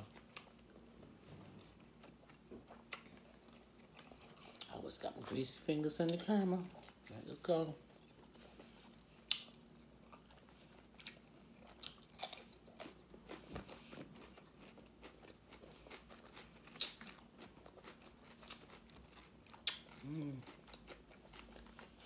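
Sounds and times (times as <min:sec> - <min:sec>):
close-up chewing and wet mouth sounds: 0:00.0 - 0:22.0.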